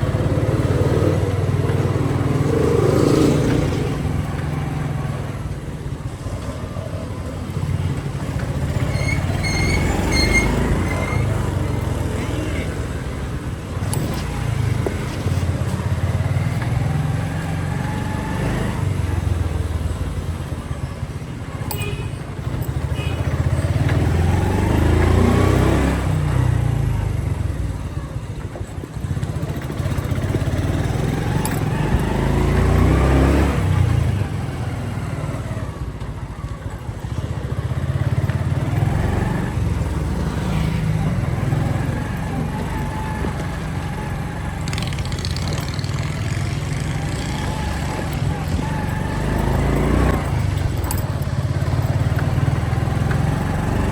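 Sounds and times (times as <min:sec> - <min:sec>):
motorcycle engine revving: 0:00.0 - 0:21.2, 0:22.4 - 0:53.9.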